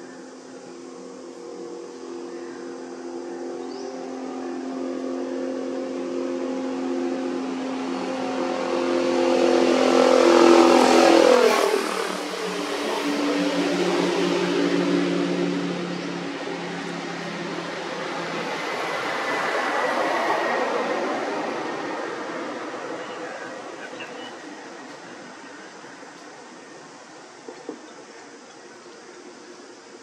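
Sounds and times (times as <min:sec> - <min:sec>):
motor vehicle passing by: 0:00.3 - 0:28.4.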